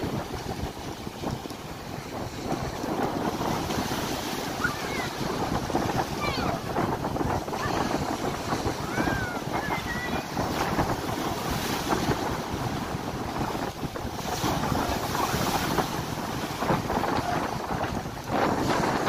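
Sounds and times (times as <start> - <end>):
surf breaking on pebble beach: 0.0 - 19.0
wind noise on microphone: 0.0 - 19.0.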